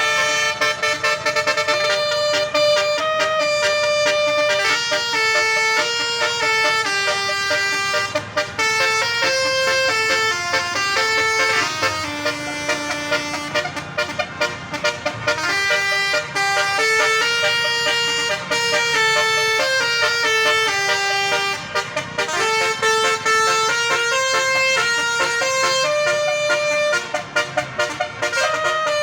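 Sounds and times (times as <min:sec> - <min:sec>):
bus horn playing a melody: 0:00.0 - 0:29.0
stuttering horn toots: 0:00.0 - 0:29.0.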